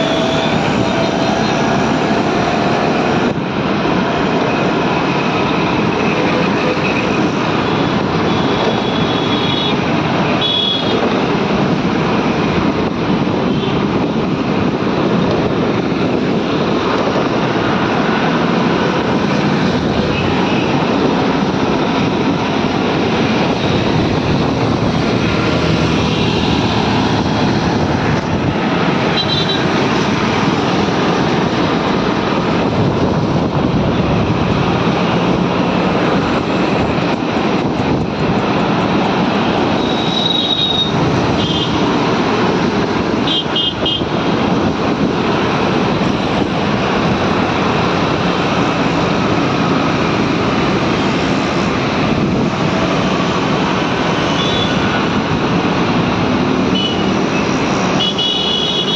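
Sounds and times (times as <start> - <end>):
road and wind noise in vehicle: 0.0 - 58.9.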